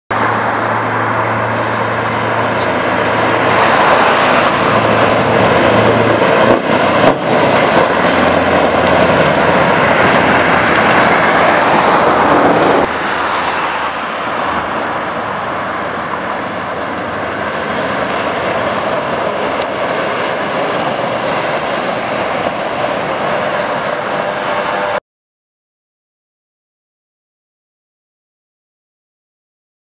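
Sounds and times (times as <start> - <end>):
diesel truck engine driving past: 0.1 - 25.0.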